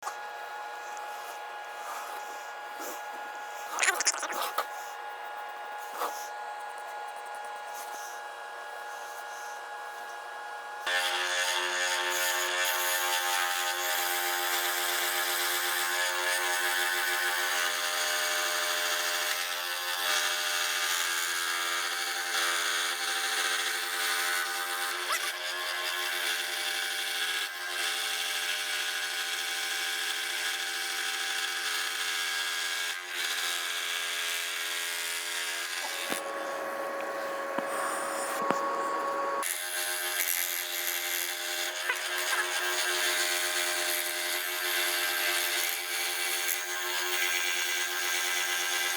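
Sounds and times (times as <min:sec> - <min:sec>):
power tool cutting wood: 0:07.6 - 0:48.9.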